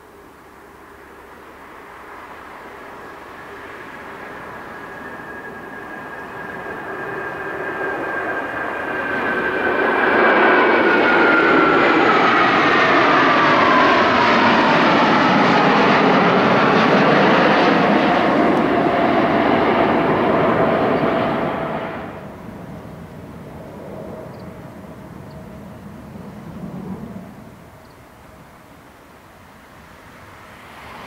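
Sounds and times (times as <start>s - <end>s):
jet engine whine: 0.0s - 31.0s
jet fighters passing overhead: 0.8s - 28.7s, 29.6s - 31.0s.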